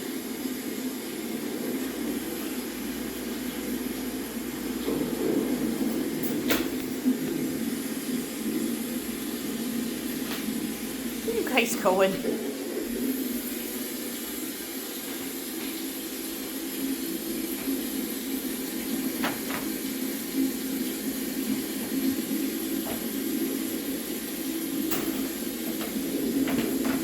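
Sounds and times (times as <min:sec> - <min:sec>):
rain hissing: 0:00.1 - 0:27.0.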